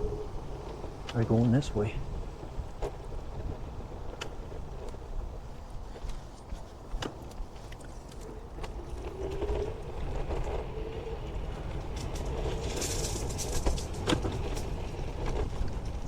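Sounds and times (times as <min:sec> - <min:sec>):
scooter rattling over bumps: 0:00.0 - 0:16.0
wind rumbling on microphone: 0:00.0 - 0:16.0.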